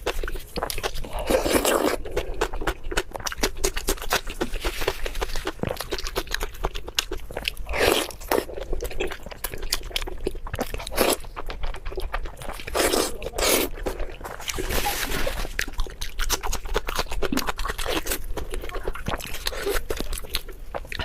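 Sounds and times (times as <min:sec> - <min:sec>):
person crunching and chewing food: 0:00.0 - 0:21.0.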